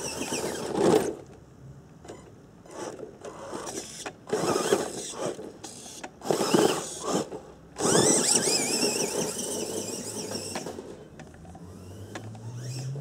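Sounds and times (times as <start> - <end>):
electric toy truck motor whining: 0.0 - 1.2, 2.1 - 13.0.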